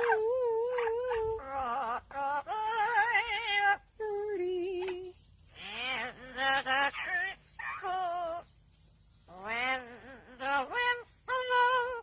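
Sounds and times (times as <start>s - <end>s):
bird mimicking singing voice: 0.0s - 12.0s.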